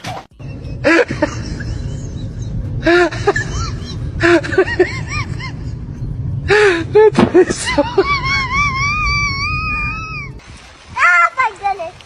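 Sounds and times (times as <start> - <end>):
steady low rumble: 0.4 - 11.0.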